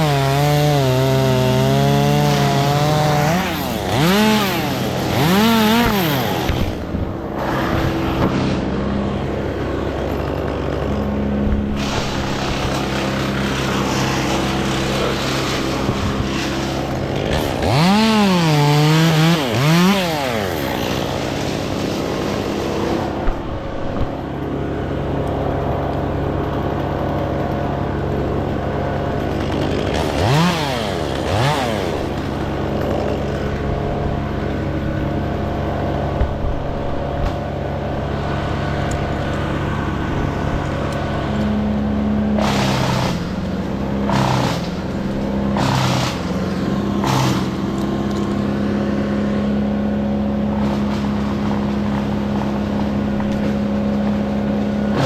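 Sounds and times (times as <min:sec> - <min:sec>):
chainsaw engine revving: 0:00.0 - 0:55.0
chainsaw engine running: 0:00.0 - 0:55.0.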